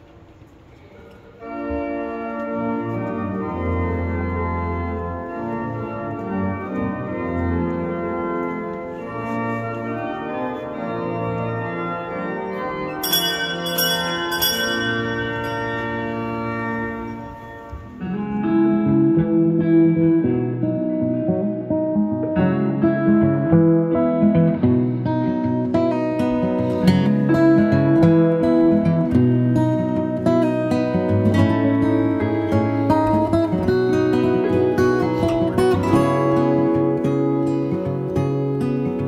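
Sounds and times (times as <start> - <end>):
pipe organ chords: 0.4 - 39.0
guitar music: 1.4 - 39.0.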